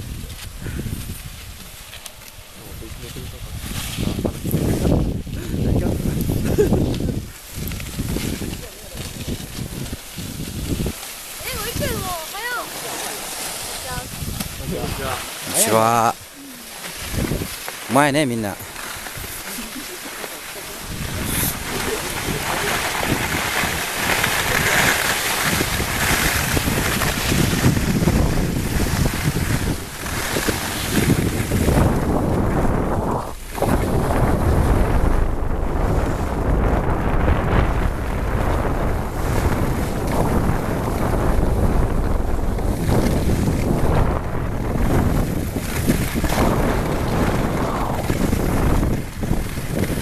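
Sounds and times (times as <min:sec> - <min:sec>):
skis sliding over snow: 0:00.0 - 0:50.0
wind buffeting microphone: 0:00.0 - 0:50.0.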